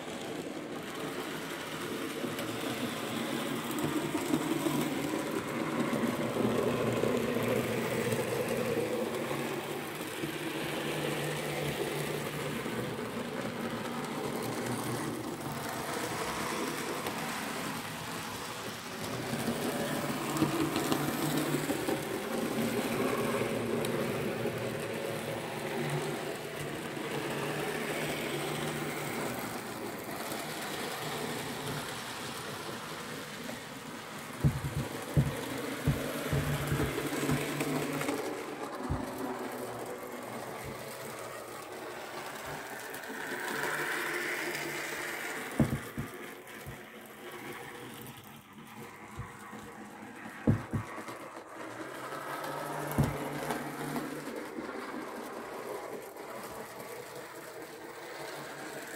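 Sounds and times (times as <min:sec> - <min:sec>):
model train motor hum: 0:00.0 - 0:58.9.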